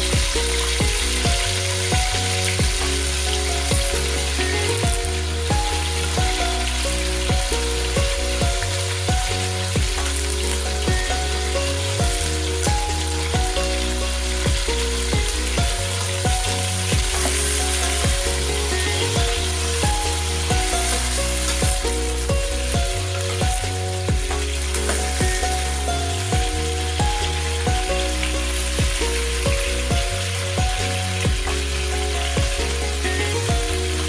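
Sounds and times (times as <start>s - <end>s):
background music with steady beat: 0.0s - 34.0s
chicken feet sizzling in pot: 0.0s - 34.0s.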